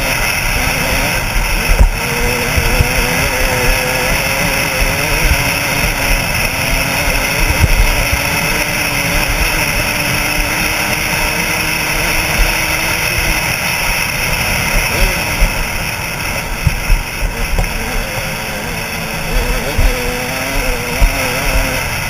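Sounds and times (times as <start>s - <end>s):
dirt bike engine running: 0.0s - 22.0s
wind buffeting microphone: 0.0s - 22.0s.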